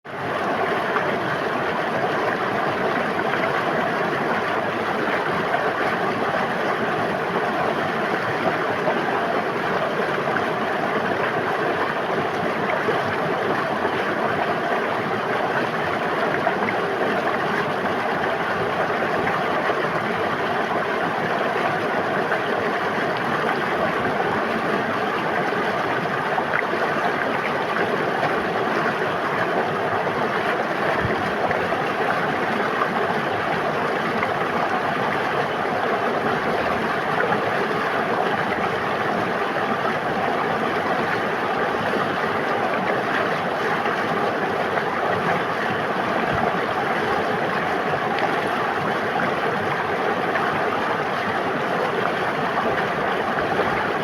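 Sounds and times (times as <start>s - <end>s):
stream babbling over rocks: 0.1s - 54.0s.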